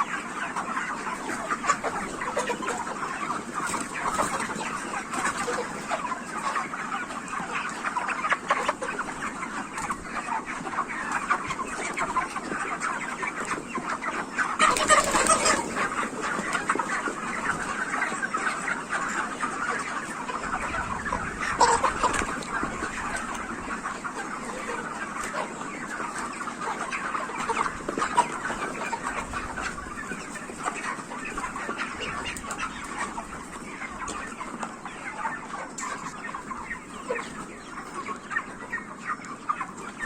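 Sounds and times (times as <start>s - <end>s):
chickens clucking and calling: 0.0s - 40.0s.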